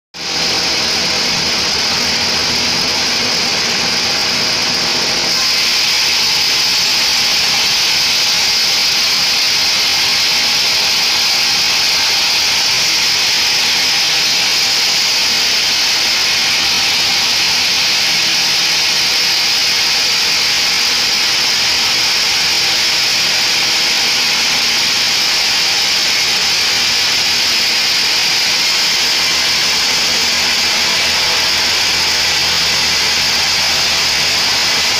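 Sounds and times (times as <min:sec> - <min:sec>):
band saw cutting through log: 0:00.2 - 0:34.9.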